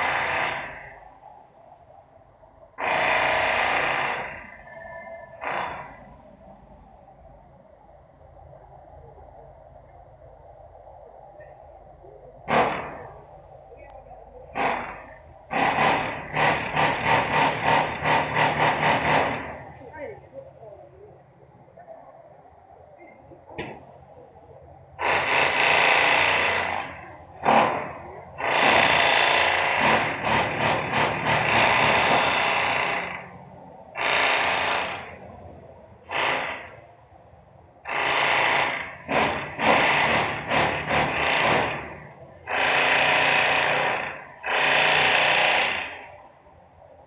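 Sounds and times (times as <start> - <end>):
loud industrial machinery noise: 0.0 - 1.6, 2.7 - 6.9, 11.4 - 20.3, 23.0 - 46.4.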